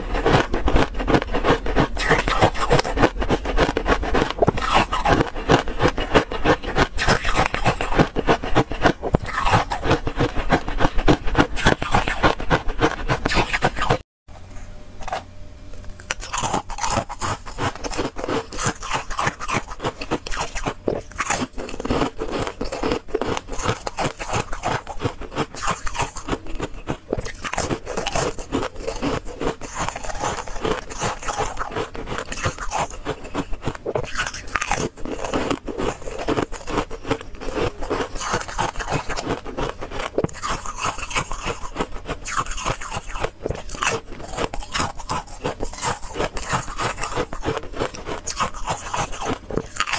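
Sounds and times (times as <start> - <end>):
ice crunching while chewed: 0.0 - 14.0, 15.0 - 49.9.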